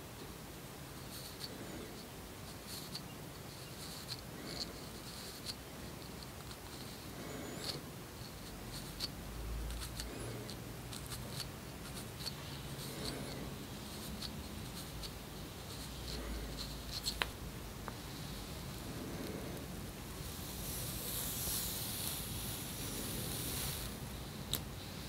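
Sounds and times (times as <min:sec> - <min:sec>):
low steady hum: 0:00.0 - 0:25.0
scratching at the scalp: 0:00.9 - 0:25.0.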